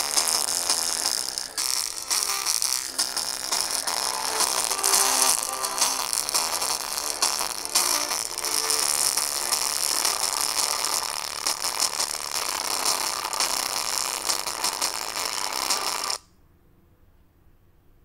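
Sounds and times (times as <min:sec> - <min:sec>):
harsh distorted speaker crackling: 0:00.0 - 0:16.2.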